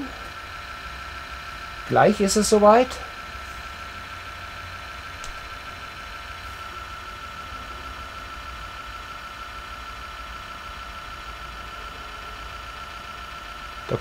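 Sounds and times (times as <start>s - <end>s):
background hum and hiss: 0.0s - 14.0s
thin high whine: 0.0s - 14.0s.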